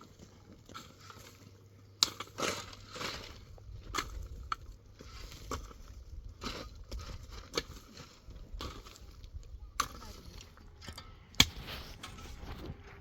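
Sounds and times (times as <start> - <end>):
stones knocking and scraping: 0.0 - 12.8.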